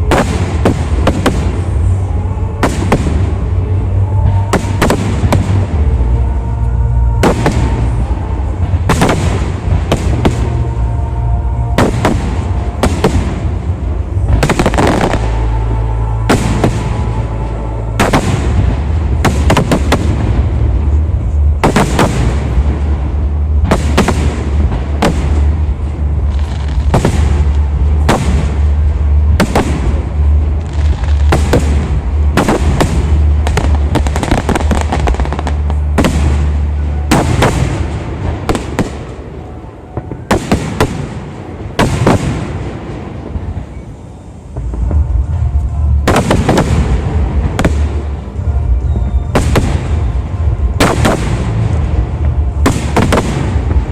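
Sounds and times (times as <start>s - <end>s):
fireworks bursting with sharp bangs: 0.0s - 53.9s
low rumble: 0.0s - 53.9s.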